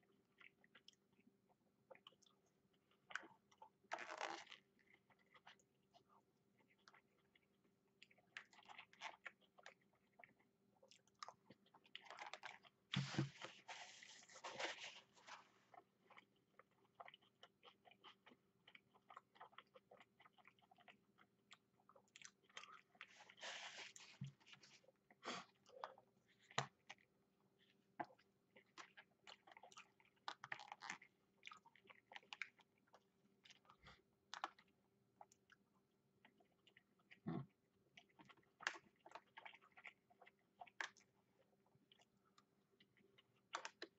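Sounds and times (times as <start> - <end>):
person chewing and crunching food: 0.0 - 43.9.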